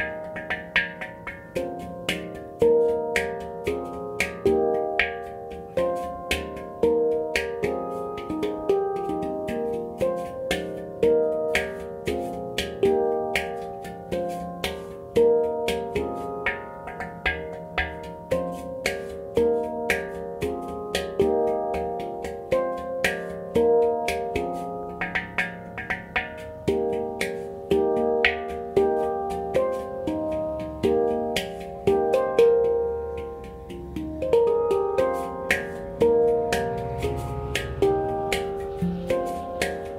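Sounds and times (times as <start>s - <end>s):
handpan notes ringing: 0.0s - 39.9s.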